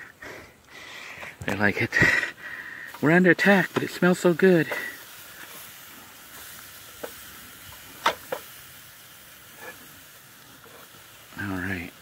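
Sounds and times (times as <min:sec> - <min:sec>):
meat sizzling on a grill: 0:00.3 - 0:12.0.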